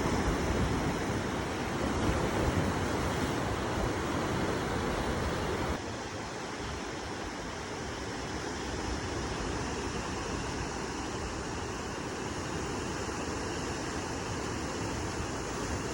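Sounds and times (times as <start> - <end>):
sea waves washing onto beach: 0.0 - 15.9.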